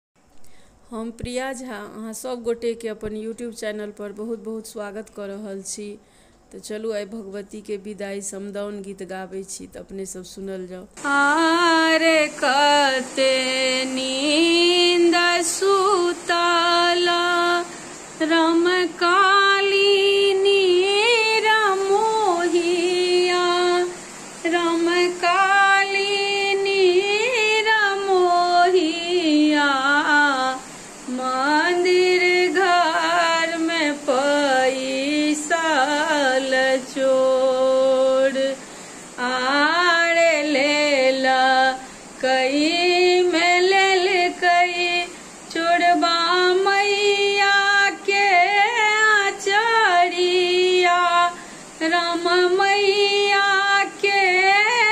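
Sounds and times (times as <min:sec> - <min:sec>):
woman singing solo: 0:00.5 - 0:54.9.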